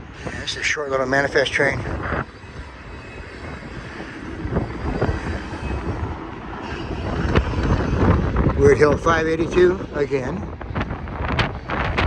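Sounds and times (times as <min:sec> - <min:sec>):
freight train rumbling past: 0:00.0 - 0:12.0
wind buffeting microphone: 0:00.0 - 0:12.0.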